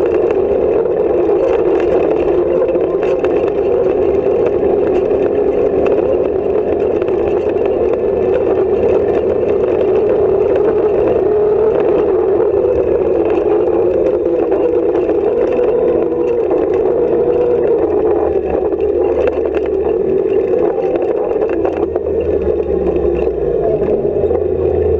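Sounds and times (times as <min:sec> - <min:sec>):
car knocking and rattling: 0:00.0 - 0:24.9
rally car engine running hard: 0:00.0 - 0:24.9.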